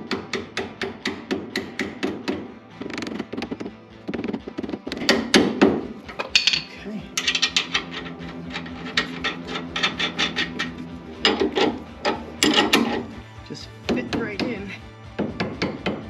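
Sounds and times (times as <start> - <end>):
hand tools clicking on metal: 0.0 - 3.6, 4.8 - 13.2, 13.8 - 16.0
background music: 0.0 - 16.0.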